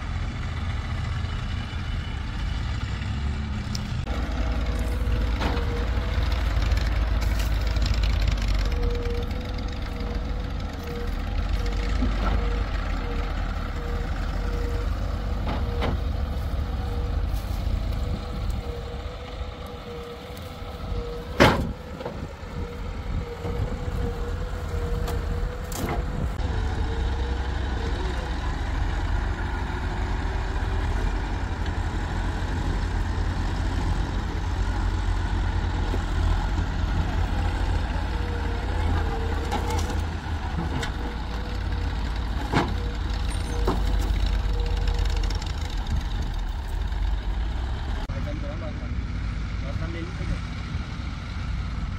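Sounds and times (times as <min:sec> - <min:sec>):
diesel machinery drone: 0:00.0 - 0:51.9.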